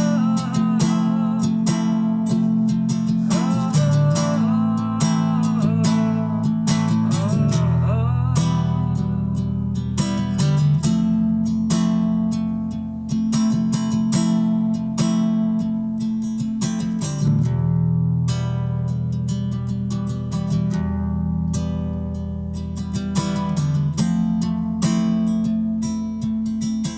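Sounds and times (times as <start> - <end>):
acoustic guitar playing: 0.0 - 26.9.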